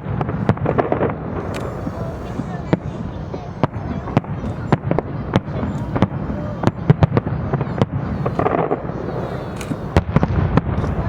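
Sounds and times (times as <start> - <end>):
fireworks sharp bangs: 0.0 - 11.0
low rumble of distant bursts: 0.0 - 11.0.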